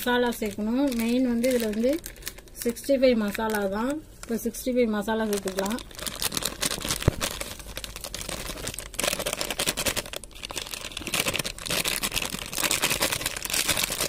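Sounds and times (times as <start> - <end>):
spice packet crinkling: 0.0 - 4.4, 5.0 - 14.0.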